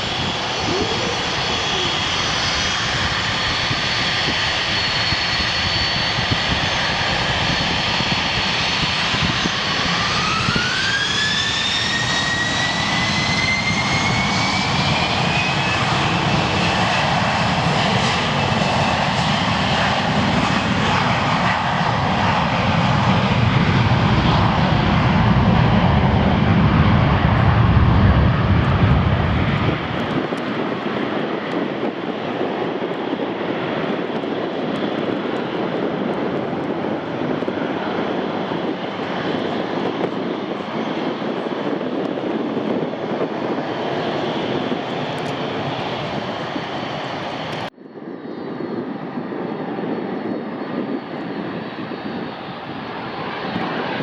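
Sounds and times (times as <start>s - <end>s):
jet engines whining: 0.0s - 54.0s
low jet rumble: 0.0s - 54.0s.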